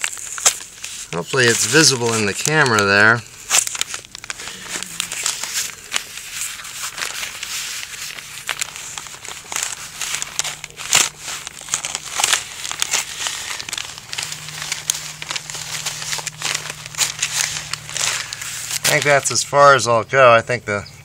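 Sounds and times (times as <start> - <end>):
stiff paper crinkling: 0.0 - 20.5.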